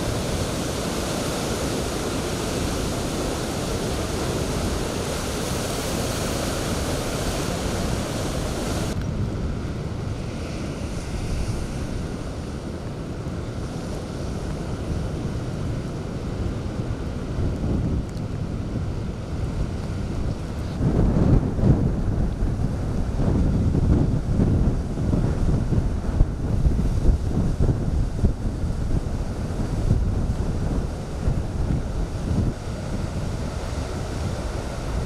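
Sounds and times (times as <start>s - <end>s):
waves crashing: 0.0s - 35.0s
wind buffeting microphone: 0.0s - 35.0s.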